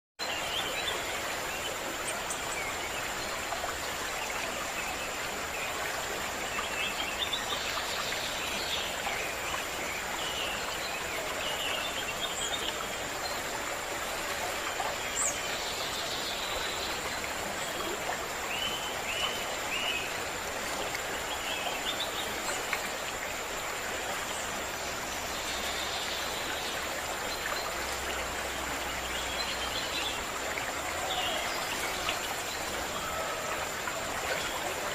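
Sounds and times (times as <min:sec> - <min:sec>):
birds chirping: 0:00.2 - 0:34.9
stream running: 0:00.2 - 0:34.9.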